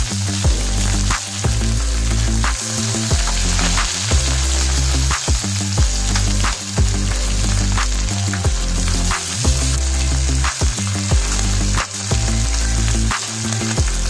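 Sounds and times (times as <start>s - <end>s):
background music with bass line: 0.0s - 14.0s
fish sizzling in oil: 0.0s - 14.0s.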